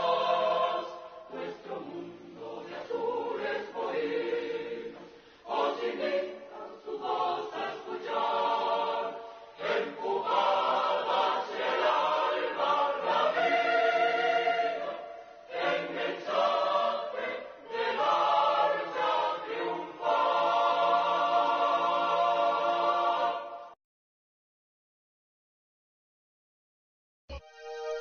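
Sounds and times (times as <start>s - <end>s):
choir singing held chords: 0.0s - 23.8s.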